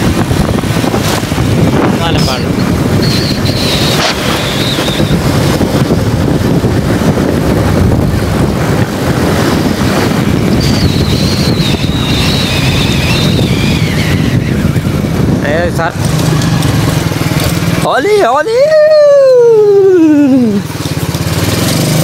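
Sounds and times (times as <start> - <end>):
wind buffeting microphone: 0.0 - 18.2
motorcycle engine running: 0.0 - 22.0.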